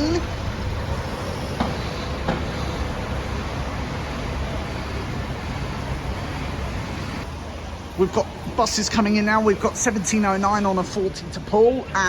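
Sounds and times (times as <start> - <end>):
bus engines rumbling: 0.0 - 12.0.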